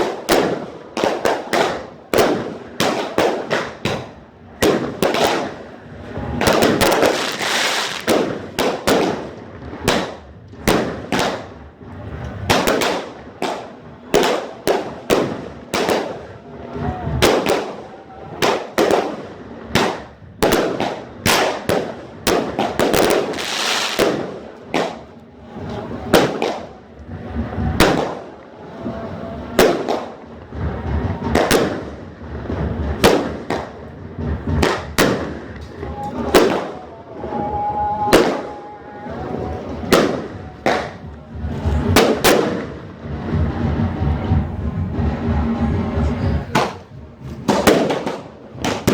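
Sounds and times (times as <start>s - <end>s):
fireworks banging: 0.0s - 48.9s
fireworks crackling: 0.0s - 48.9s.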